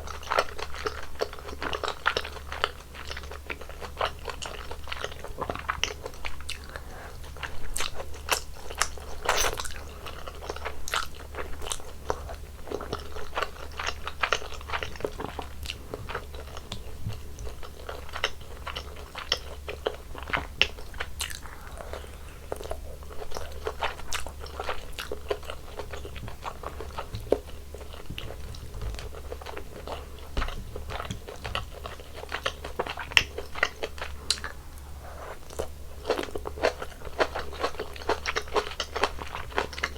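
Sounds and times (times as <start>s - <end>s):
crunching bites and chewing: 0.1s - 34.6s.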